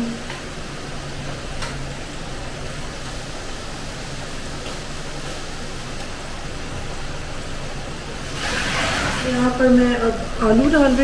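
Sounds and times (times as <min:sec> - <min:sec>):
gas stove rushing hiss: 0:00.0 - 0:11.0.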